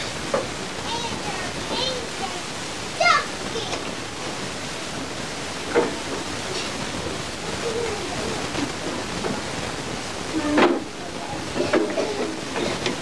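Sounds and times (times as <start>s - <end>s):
faint children's voices: 0.0s - 4.4s, 5.8s - 9.2s, 10.2s - 13.0s
room noise hiss: 0.0s - 13.0s.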